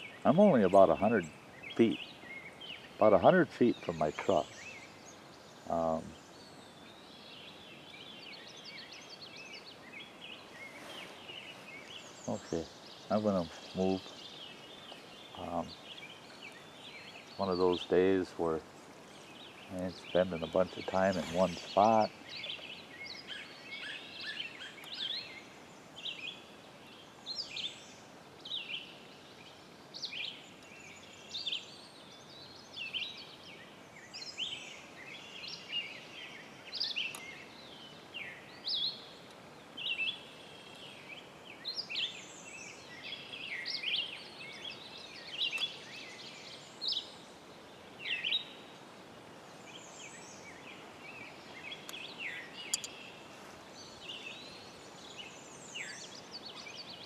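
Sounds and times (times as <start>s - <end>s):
faint background hiss: 0.0s - 57.0s
songbirds chirping and singing: 0.0s - 57.0s.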